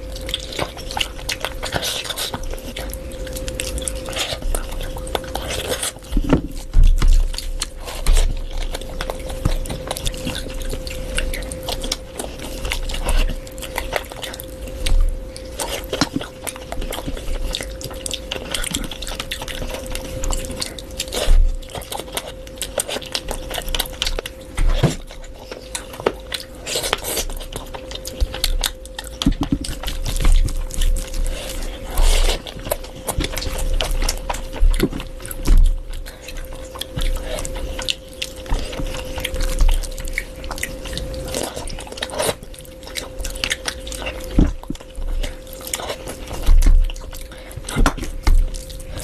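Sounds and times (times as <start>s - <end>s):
biting and chewing food: 0.0s - 49.0s.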